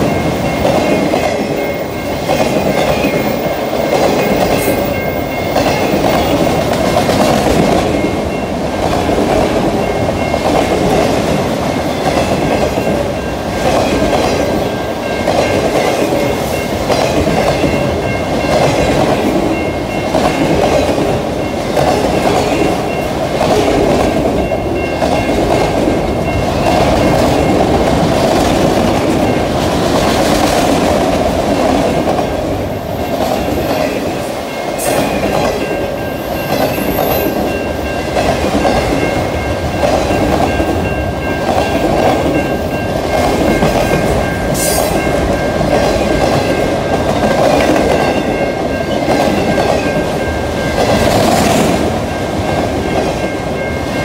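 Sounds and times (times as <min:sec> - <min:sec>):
freight train cars rolling: 0:00.0 - 0:54.0.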